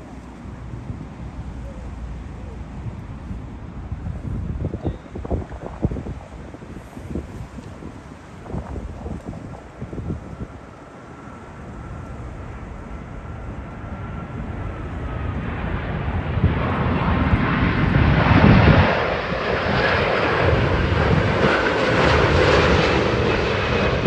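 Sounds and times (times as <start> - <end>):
faint engine whine: 0.0 - 24.0
jet engines roaring overhead: 0.0 - 24.0.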